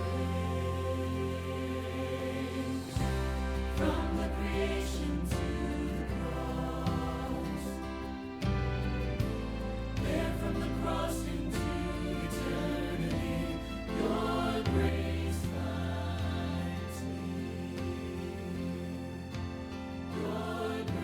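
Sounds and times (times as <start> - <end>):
choir singing: 0.0 - 21.0
deep bass accompaniment: 0.0 - 21.0.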